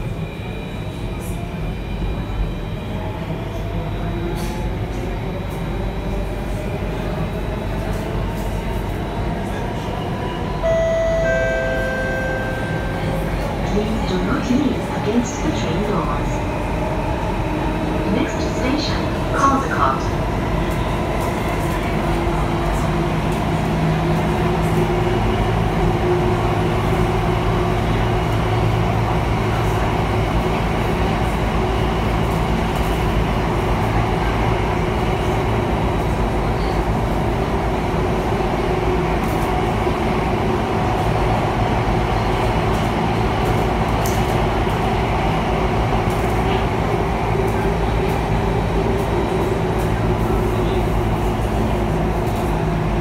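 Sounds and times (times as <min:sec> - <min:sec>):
train rumble in tunnel: 0:00.0 - 0:53.0.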